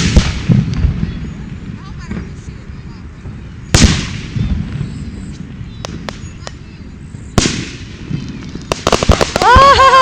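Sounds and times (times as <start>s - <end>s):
fireworks crackling pops: 0.0s - 2.6s, 3.7s - 6.6s, 7.3s - 10.0s
fireworks booming: 0.0s - 6.2s, 7.3s - 10.0s.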